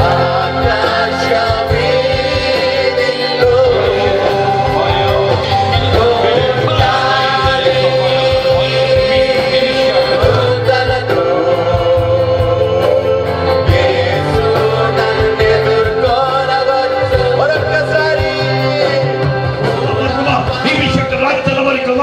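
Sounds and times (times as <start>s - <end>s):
person singing: 0.0s - 21.4s
keyboard bass and drums: 0.0s - 22.0s.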